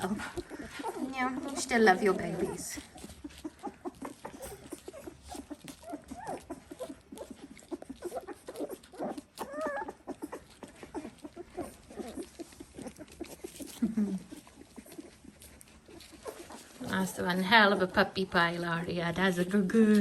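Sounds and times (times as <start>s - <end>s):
puppies squeaking and whimpering: 0.0s - 20.0s
puppy whining: 0.0s - 20.0s.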